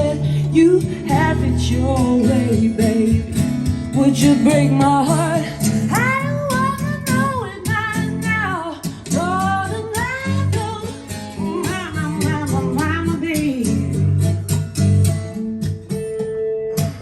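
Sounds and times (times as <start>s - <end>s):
woman singing: 0.0s - 14.2s
acoustic guitar strummed and plucked: 0.0s - 17.0s.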